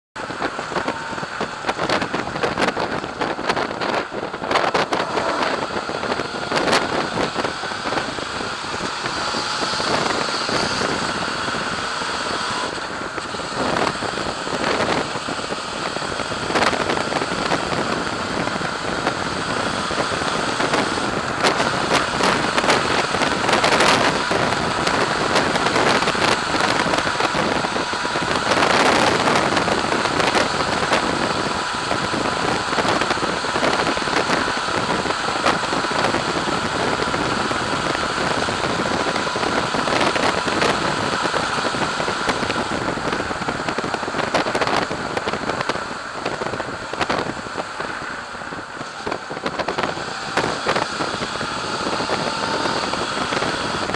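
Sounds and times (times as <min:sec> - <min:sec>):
motorcycle engine drone: 0:00.0 - 0:53.9
wind buffeting on microphone: 0:00.2 - 0:53.9
wind rush: 0:00.2 - 0:53.9.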